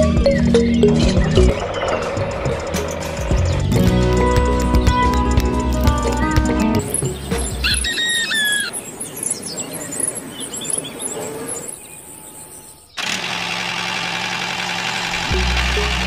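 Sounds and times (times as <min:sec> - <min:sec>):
birds chirping: 0:00.0 - 0:13.1.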